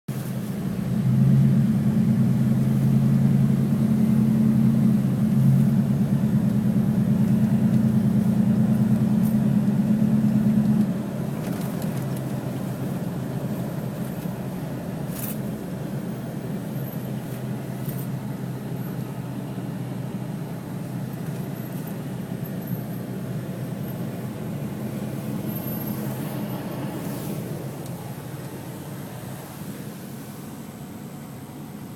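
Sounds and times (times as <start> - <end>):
road noise: 0.1 - 31.9
vehicle engine hum: 0.1 - 31.9.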